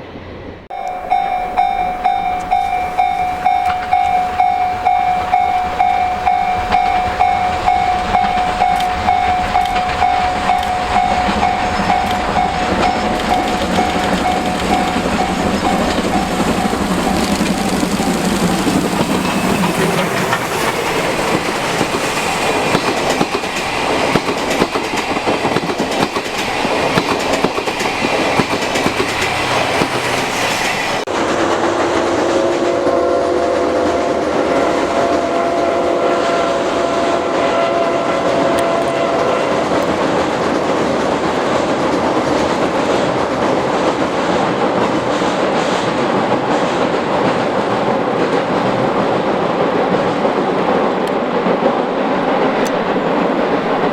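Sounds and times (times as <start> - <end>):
train ringing on steel bridge: 0.0 - 53.9
train wheels clattering on rails: 0.7 - 32.4, 38.5 - 53.9
steam locomotive exhaust beats: 0.7 - 53.9.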